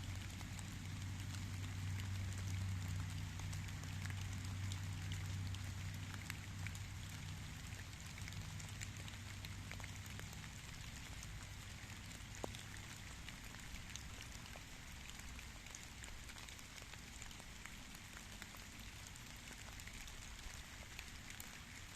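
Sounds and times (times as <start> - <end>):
steady rainfall: 0.0 - 21.9.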